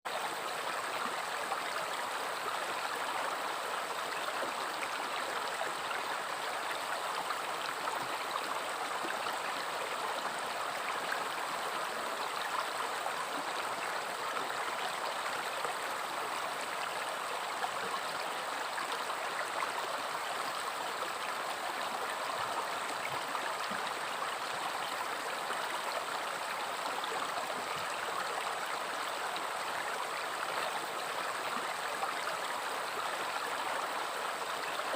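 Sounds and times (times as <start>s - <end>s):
river water flowing over rocks: 0.1s - 34.9s.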